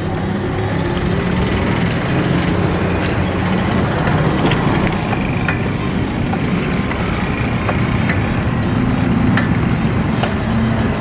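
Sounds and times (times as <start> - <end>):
bicycle clicks: 0.0 - 11.0
tyre and road noise: 0.0 - 11.0.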